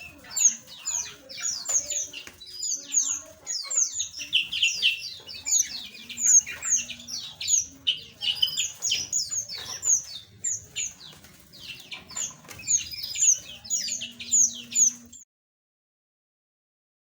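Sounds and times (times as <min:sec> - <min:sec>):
flock of small birds chirping: 0:00.0 - 0:15.2.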